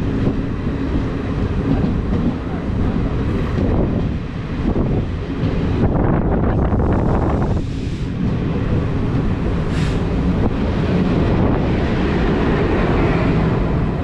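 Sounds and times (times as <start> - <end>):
passenger train rumble: 0.0 - 14.0
wind on microphone: 0.0 - 14.0.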